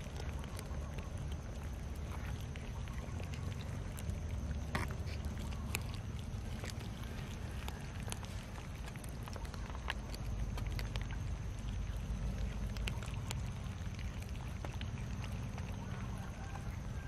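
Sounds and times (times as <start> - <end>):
cats chewing and clicking: 0.0 - 17.0
low rumble: 0.0 - 17.0.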